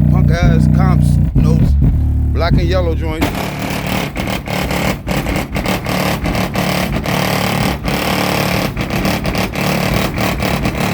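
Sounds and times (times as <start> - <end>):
loud bass-heavy music from subwoofers: 0.0 - 10.9.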